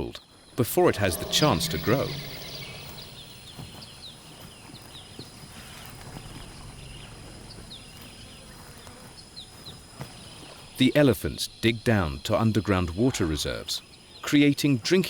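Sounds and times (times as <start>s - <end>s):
high insect hum: 0.0s - 15.0s.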